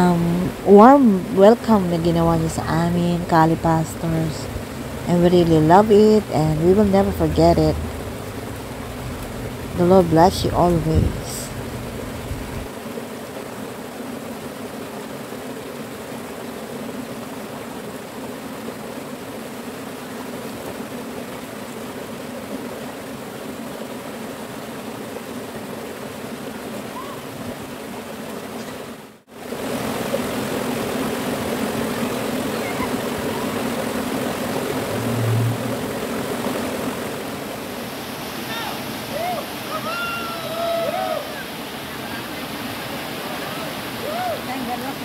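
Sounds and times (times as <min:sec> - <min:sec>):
river water rushing over rocks: 0:00.0 - 0:45.0.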